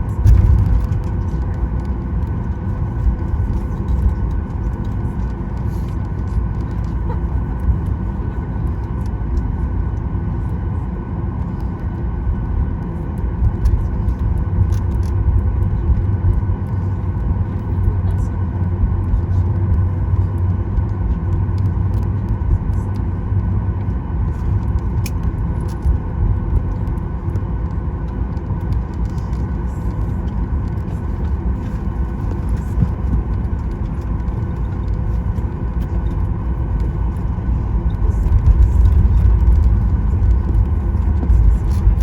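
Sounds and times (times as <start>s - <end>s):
aircraft cabin low rumble: 0.0s - 42.0s.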